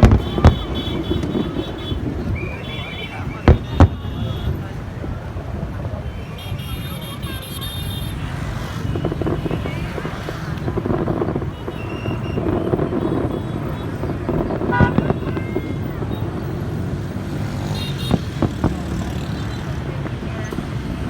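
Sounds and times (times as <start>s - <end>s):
outdoor crowd and street noise: 0.0s - 21.0s.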